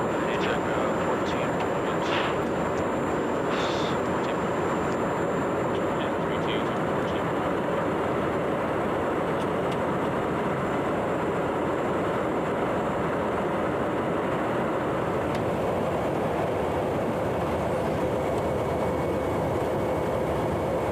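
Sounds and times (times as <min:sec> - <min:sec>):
faint steady whine: 0:00.0 - 0:20.9
jet engines roaring: 0:00.0 - 0:20.9.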